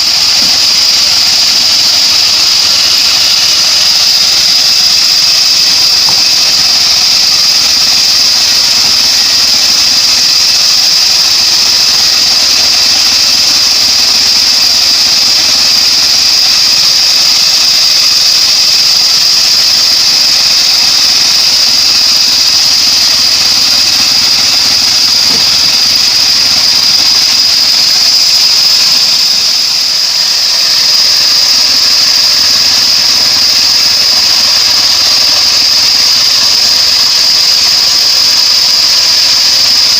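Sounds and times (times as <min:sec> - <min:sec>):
bandsaw sawmill running: 0:00.0 - 0:39.9
high-pitched blade whine: 0:00.0 - 0:39.9.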